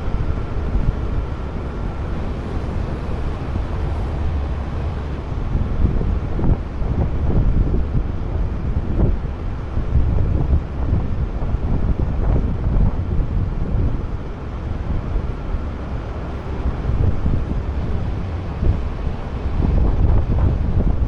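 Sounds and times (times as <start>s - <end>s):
heavy truck rumbling: 0.0s - 21.0s
wind buffeting microphone: 0.0s - 21.0s.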